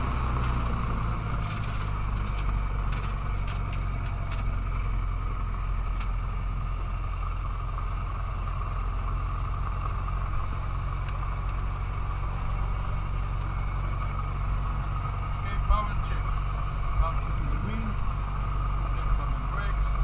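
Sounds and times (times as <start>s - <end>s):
aircraft engine low drone: 0.0s - 20.0s.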